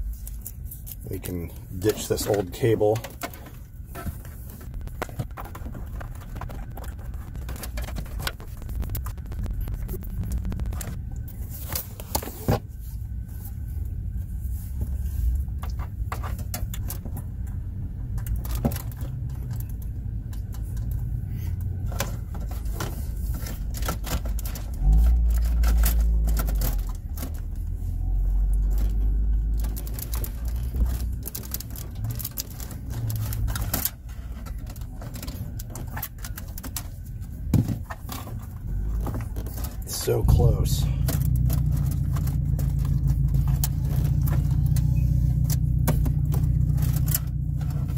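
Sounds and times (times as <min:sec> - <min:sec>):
wiring rustling: 0:00.0 - 0:47.9
low rumble: 0:03.3 - 0:36.3, 0:37.0 - 0:47.9.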